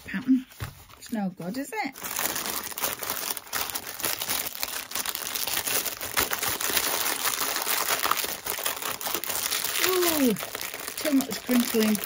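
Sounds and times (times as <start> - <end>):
plastic bag crinkling: 1.0 - 12.0.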